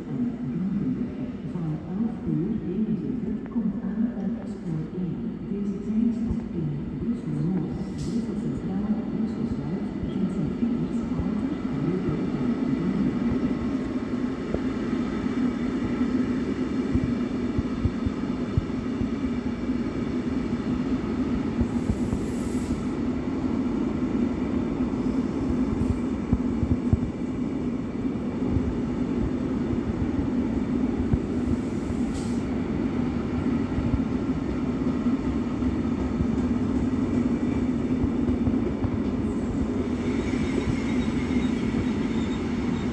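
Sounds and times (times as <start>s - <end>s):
train wheels rumbling on rails: 1.3s - 42.9s.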